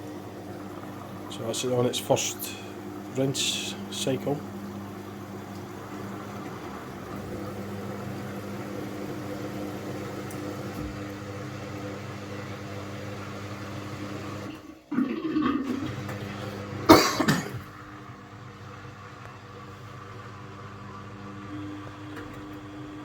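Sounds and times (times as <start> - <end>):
washing machine water running: 0.0 - 23.0.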